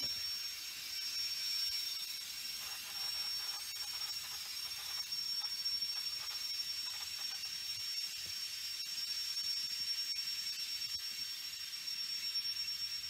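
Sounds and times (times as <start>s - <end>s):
thin high whine: 0.0s - 13.0s.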